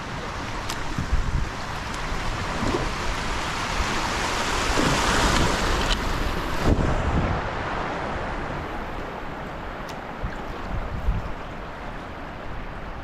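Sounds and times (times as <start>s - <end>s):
creek water rushing over riffle: 0.0s - 13.0s.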